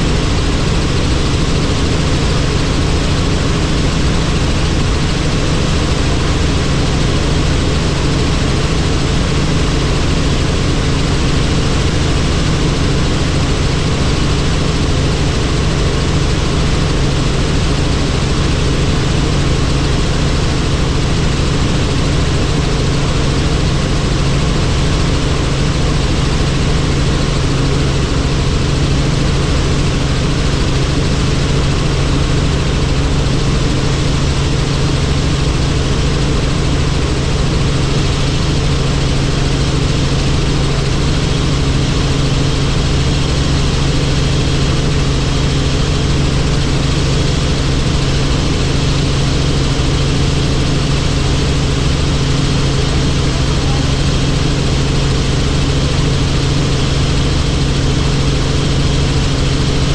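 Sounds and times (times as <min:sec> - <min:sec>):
helicopter drone: 0:00.0 - 0:59.9.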